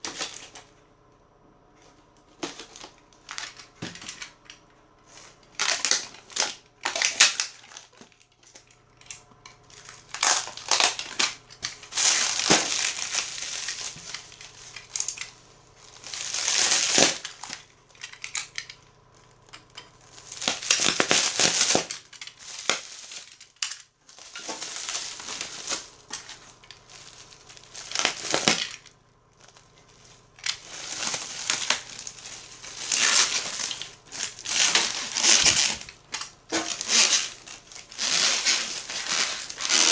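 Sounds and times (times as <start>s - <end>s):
packing materials rustling: 1.9s - 4.4s, 5.1s - 39.9s.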